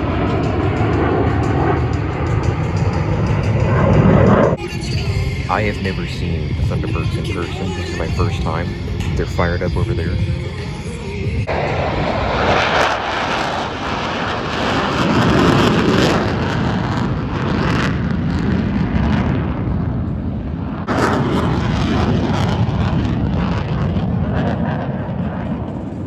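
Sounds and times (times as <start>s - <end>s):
loud jet engine roar: 0.0s - 26.0s.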